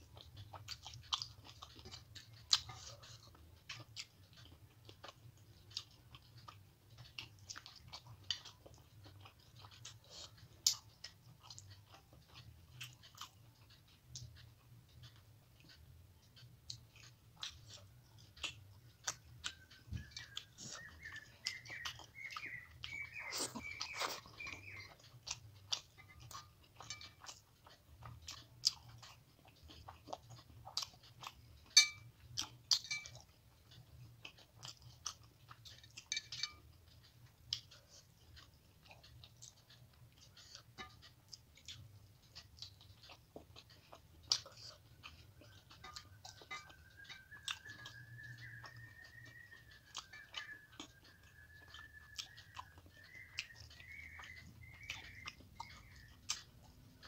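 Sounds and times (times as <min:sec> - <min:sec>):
wet chewing clicks and smacks: 0:00.0 - 0:57.0.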